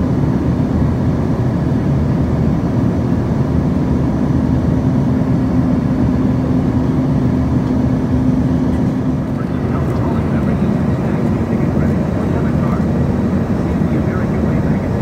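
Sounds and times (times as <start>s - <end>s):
aircraft engine drone in cabin: 0.0s - 15.0s
constant low hum: 0.0s - 15.0s.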